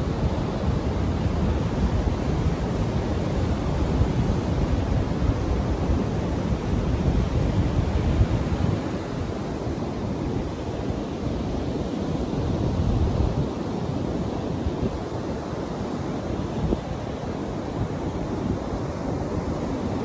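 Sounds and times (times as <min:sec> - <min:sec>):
ocean surf washing onto beach: 0:00.0 - 0:20.0
wind rumbling on microphone: 0:00.0 - 0:20.0.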